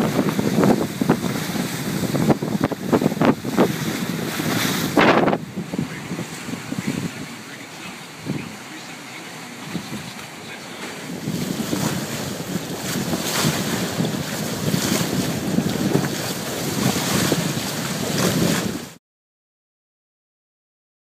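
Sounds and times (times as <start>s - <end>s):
water splashing against hulls: 0.0s - 19.0s
wind buffeting microphone: 0.0s - 19.0s.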